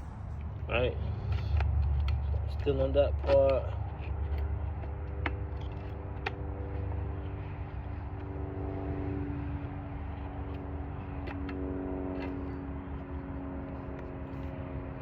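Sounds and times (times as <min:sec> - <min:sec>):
engine-like hum with low rumble: 0:00.0 - 0:15.0.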